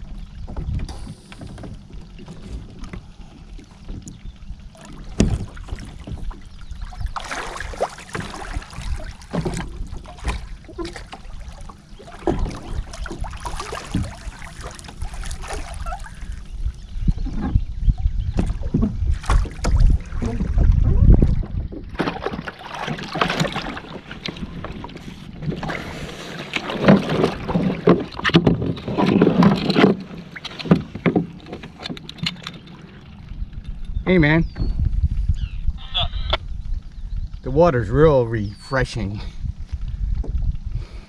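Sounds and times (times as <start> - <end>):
water splashing against kayak: 0.0 - 36.8
wind rumble on microphone: 0.0 - 41.0.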